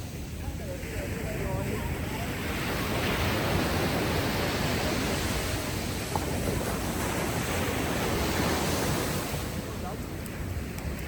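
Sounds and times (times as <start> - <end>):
ocean waves breaking: 0.0 - 11.0
sea breeze: 0.0 - 11.0.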